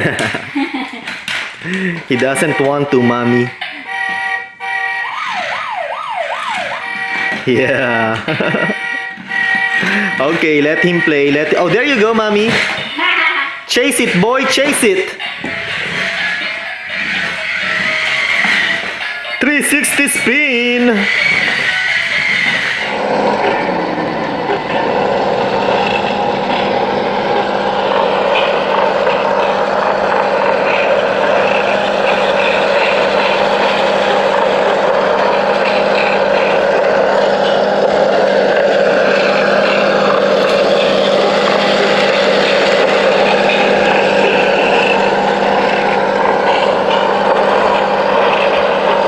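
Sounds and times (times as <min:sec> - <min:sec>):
toy vehicle electric motor whine: 0:00.0 - 0:49.0.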